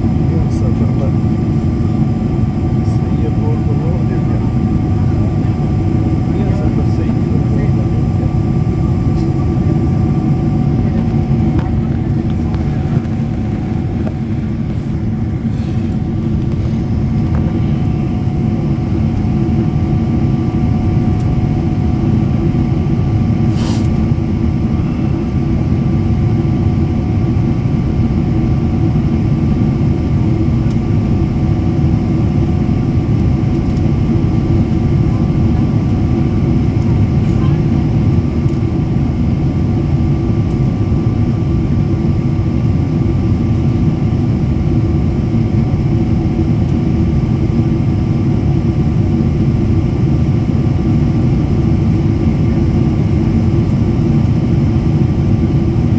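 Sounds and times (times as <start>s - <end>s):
jet cabin engine rumble: 0.0s - 55.9s.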